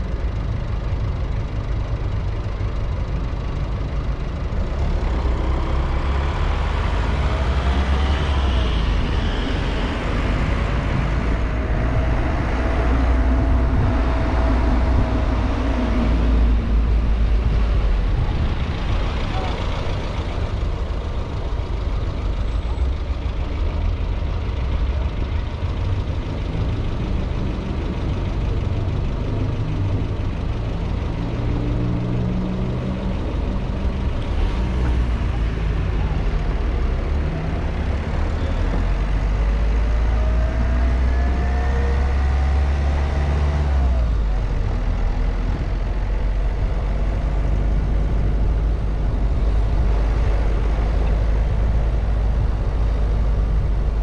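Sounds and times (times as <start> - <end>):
road and engine rumble: 0.0 - 54.0
rising engine whine: 4.5 - 54.0.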